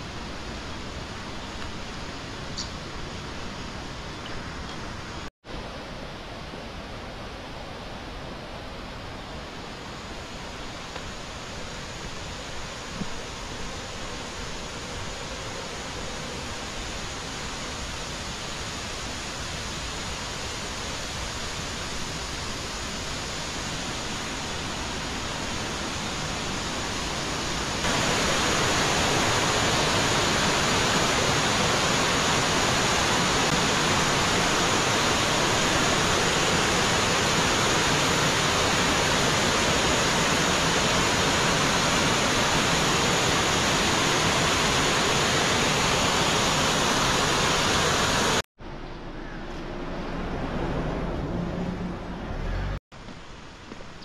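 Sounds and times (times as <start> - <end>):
stream rushing over boulders: 0.0 - 48.4.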